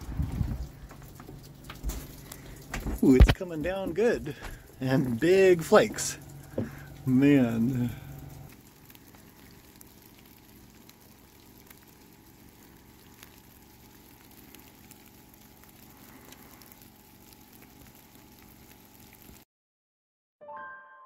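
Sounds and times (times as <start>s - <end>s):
hiss of heavy snow falling: 0.1s - 19.4s
light ticks of snowflakes landing: 0.6s - 19.4s.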